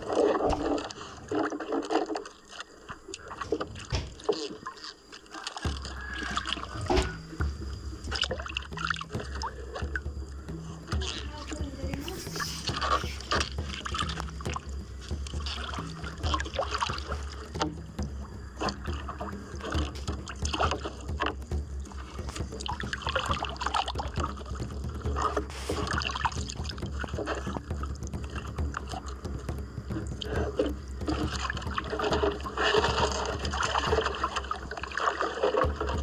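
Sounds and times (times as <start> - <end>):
water splashing against boat: 0.0 - 36.0.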